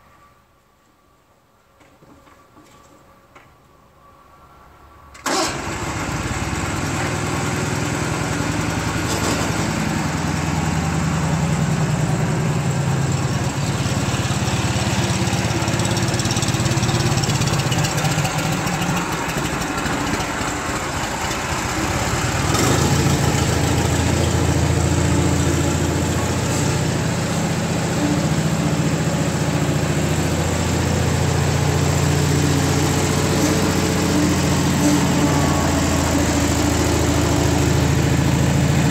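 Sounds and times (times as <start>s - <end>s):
garden tractor engine running: 5.2s - 38.9s.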